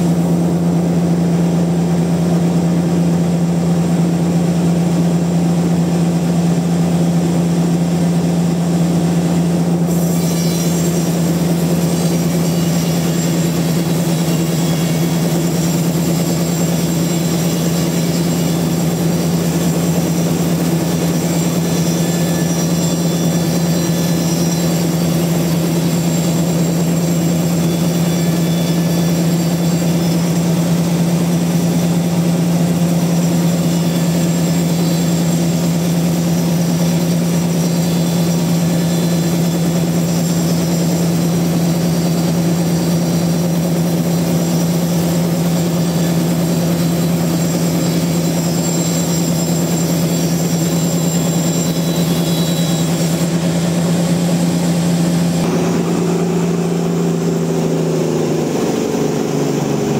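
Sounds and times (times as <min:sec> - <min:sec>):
sawmill machine hum: 0:00.0 - 0:59.9.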